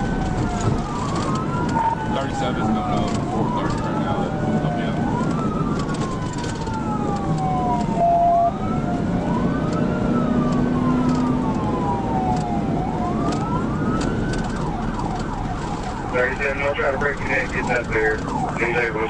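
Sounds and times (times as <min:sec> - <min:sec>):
car and road rumble: 0:00.0 - 0:19.0
police siren wailing: 0:00.0 - 0:19.0.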